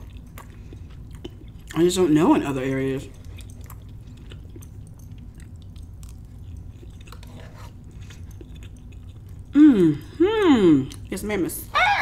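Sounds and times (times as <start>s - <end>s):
wet chewing and mouth smacks: 0.0s - 10.1s, 10.8s - 11.2s
low room hum: 0.0s - 12.0s.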